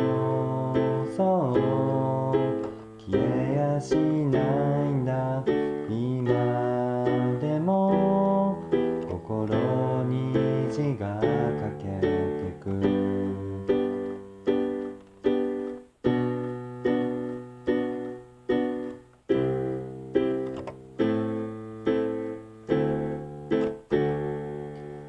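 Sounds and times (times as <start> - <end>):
keyboard piano chords: 0.0 - 25.0.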